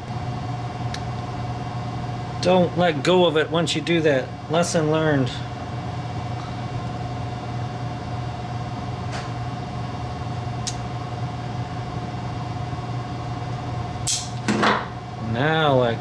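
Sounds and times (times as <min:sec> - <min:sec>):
low hum with faint whine: 0:00.0 - 0:16.0.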